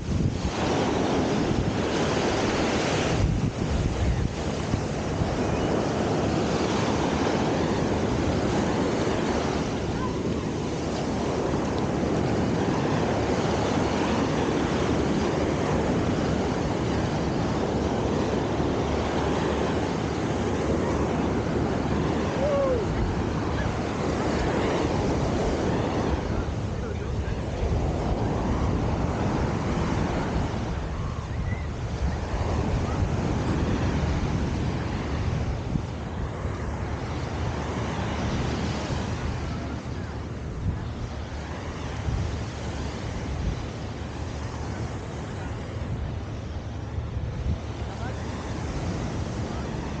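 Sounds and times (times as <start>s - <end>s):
surf breaking on a beach: 0.0s - 50.0s
wind on microphone: 0.0s - 50.0s.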